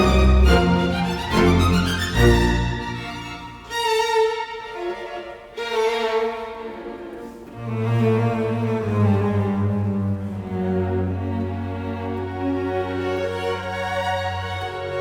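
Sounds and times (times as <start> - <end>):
bowed strings music: 0.0 - 15.0.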